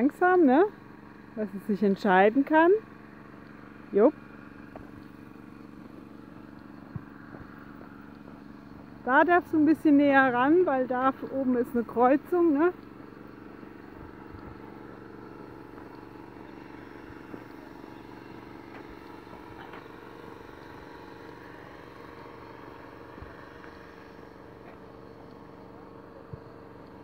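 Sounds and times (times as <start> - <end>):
distant road traffic hum: 0.0 - 27.0.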